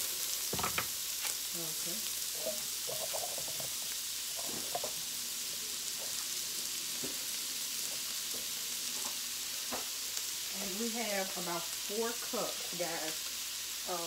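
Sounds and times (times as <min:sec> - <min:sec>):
shrimp and onion sizzling in oil: 0:00.0 - 0:14.0.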